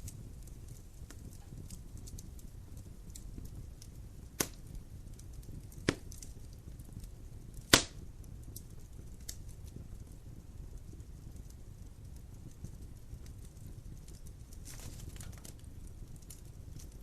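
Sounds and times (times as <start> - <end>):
fireplace fire crackling: 0.0 - 17.0
sharp fire pops: 0.0 - 17.0.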